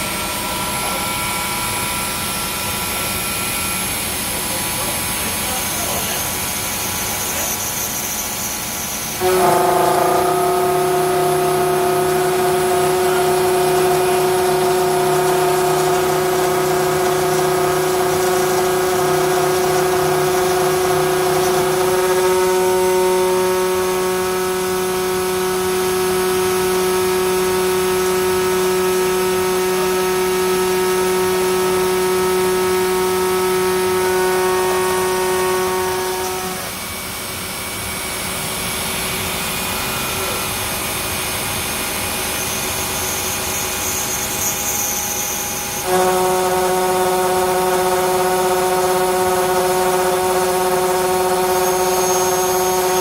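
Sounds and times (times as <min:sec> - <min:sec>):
milling machine whine: 0:00.0 - 0:53.0.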